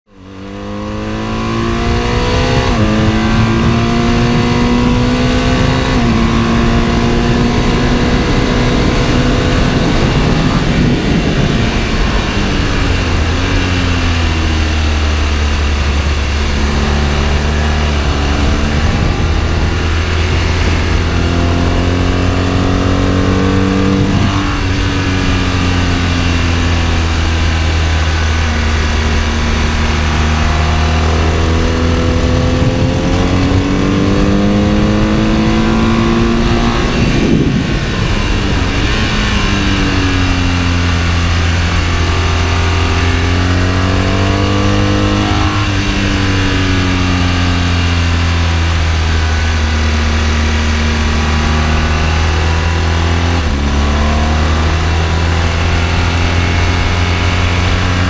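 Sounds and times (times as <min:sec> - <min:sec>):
motorcycle engine revving: 0:00.1 - 0:58.0
wind on microphone: 0:00.4 - 0:58.0.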